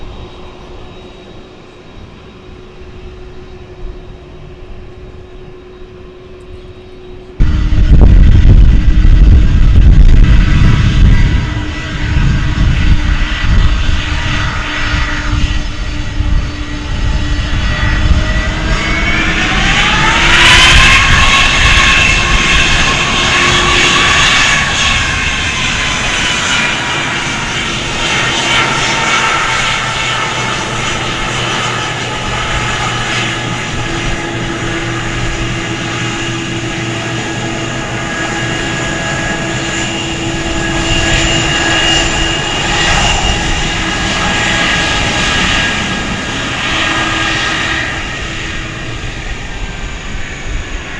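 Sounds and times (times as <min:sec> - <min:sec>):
jet engines spooling up: 0:00.0 - 0:50.9.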